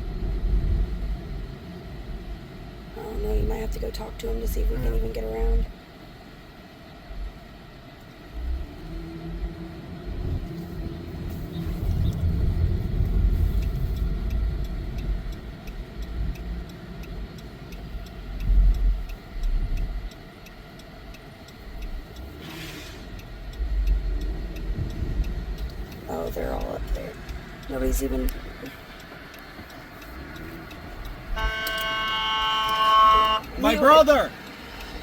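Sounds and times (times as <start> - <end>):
engine and road rumble: 0.0 - 35.0
faint regular ticking: 0.1 - 9.7, 10.4 - 35.0.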